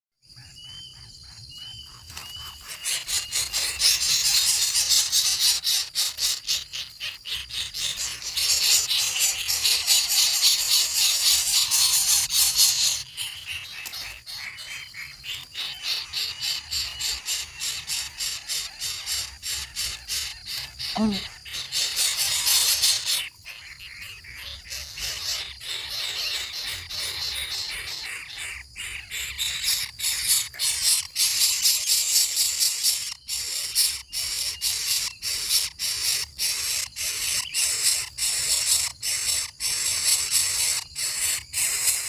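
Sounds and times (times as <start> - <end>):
chorus of small calling animals: 0.2 - 42.0.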